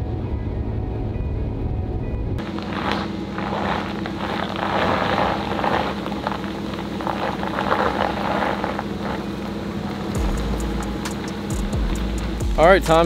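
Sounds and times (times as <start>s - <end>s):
road noise: 0.0s - 13.0s
steady low hum: 0.0s - 13.0s.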